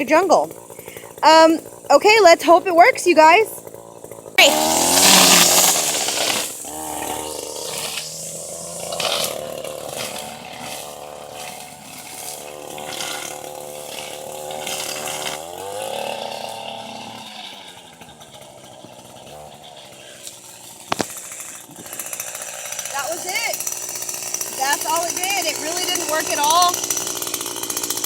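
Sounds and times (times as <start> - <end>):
string trimmer running: 0.0 - 28.0.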